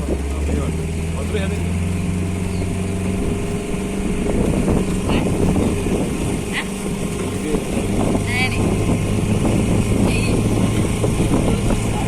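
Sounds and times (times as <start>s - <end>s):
boat motor running with rattle: 0.0s - 12.0s.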